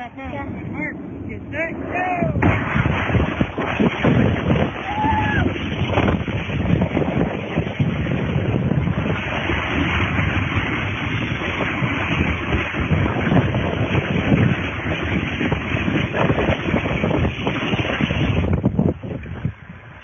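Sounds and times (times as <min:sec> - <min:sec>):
rumble of sliding on a slide: 0:00.0 - 0:20.0
wind rushing over microphone: 0:00.0 - 0:20.0.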